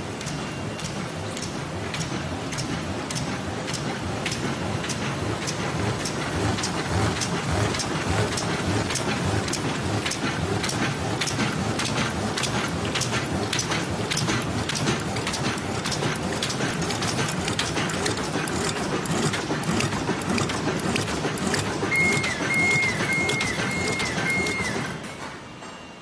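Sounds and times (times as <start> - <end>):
machine hum: 0.0 - 25.1
machine clattering: 0.0 - 25.8.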